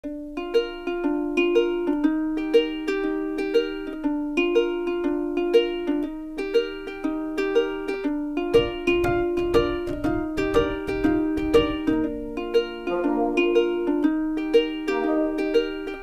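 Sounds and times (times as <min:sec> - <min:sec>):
plucked-string tune: 0:00.0 - 0:16.0.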